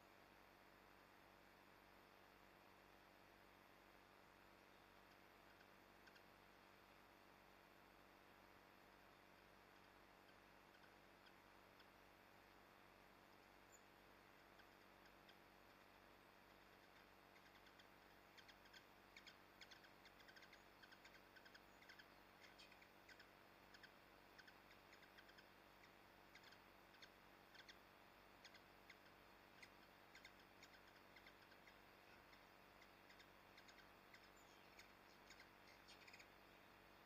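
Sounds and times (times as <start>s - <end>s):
steady low hum: 0.0s - 37.0s
small birds chirping: 1.8s - 37.0s.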